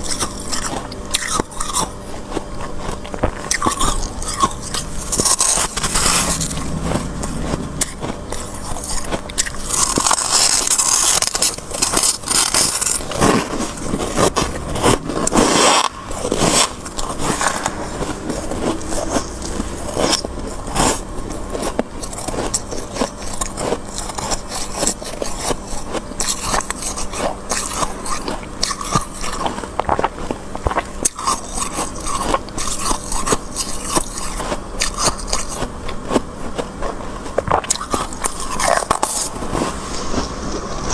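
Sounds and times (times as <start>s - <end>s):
spoon scraping freezer frost: 0.0s - 40.4s
frost crunching in mouth: 0.0s - 40.7s.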